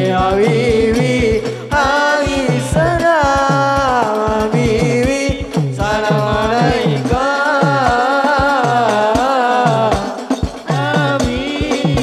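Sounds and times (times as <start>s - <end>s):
frame drums beating: 0.0s - 12.0s
man singing through microphone: 0.0s - 12.0s.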